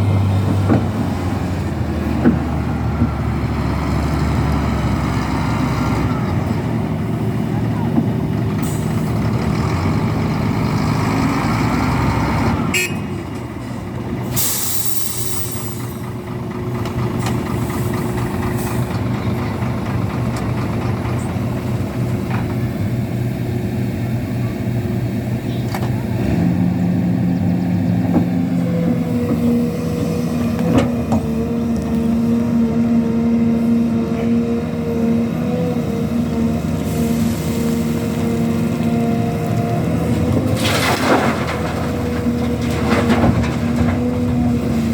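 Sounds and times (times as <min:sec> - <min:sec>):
heavy diesel machinery engines: 0:00.0 - 0:44.9.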